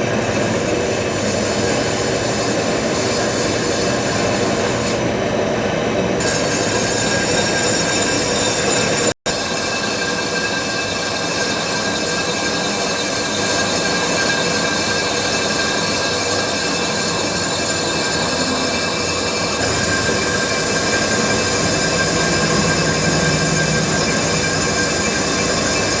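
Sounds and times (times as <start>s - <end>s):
lathe tool metallic screech: 0.0s - 5.0s, 6.2s - 26.0s
lathe machine running: 0.0s - 26.0s.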